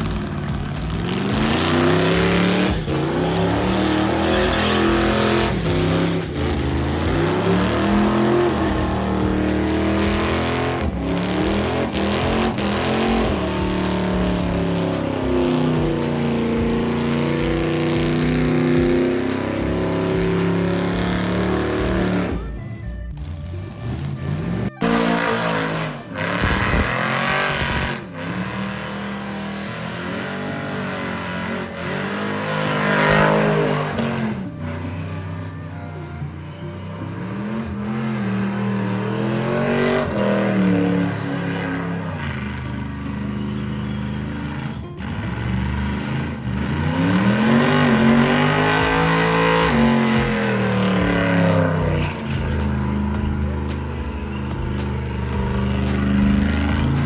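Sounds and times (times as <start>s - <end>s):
car engines revving: 0.0s - 57.0s
tyre noise: 0.0s - 57.0s.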